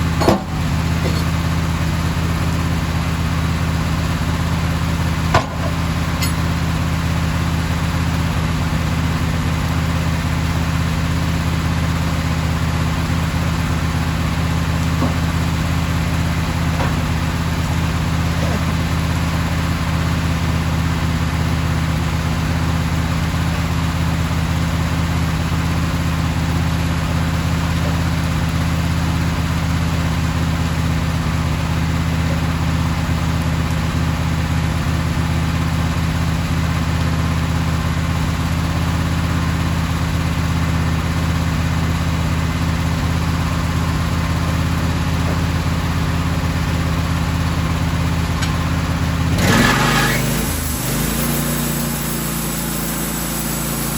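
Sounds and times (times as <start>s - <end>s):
engine humming steadily: 0.0s - 53.9s.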